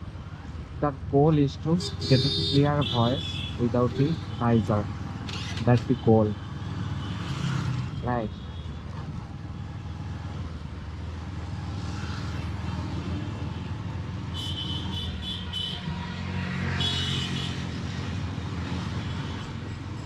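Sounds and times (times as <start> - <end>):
road rumble: 0.0 - 20.0.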